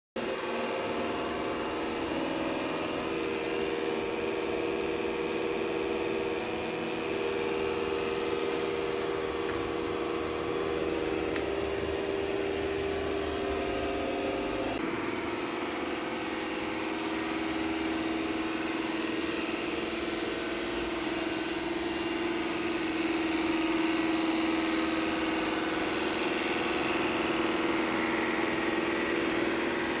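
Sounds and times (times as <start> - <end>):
robot vacuum droning: 0.2 - 30.0.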